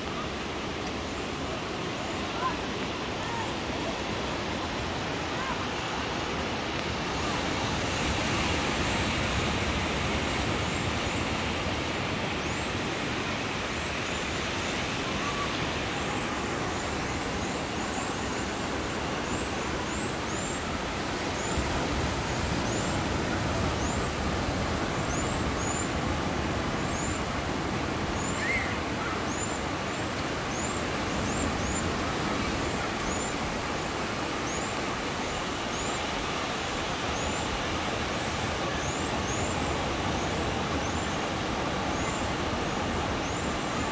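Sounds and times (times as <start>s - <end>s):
waves breaking on sandy beach: 0.0s - 43.9s.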